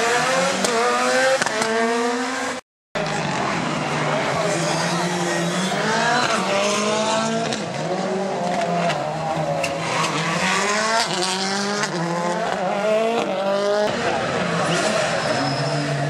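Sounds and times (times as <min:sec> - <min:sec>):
rally car engines revving: 0:00.0 - 0:16.0.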